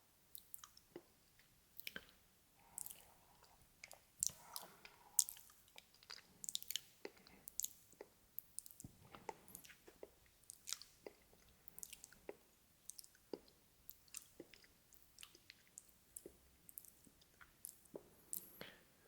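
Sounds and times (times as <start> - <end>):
wet lip and tongue clicks: 0.3 - 18.8.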